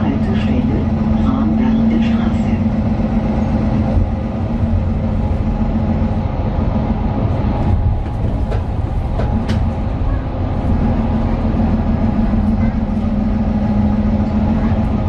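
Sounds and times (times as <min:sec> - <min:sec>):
bus diesel engine rumble: 0:00.0 - 0:15.0
road noise: 0:00.0 - 0:15.0.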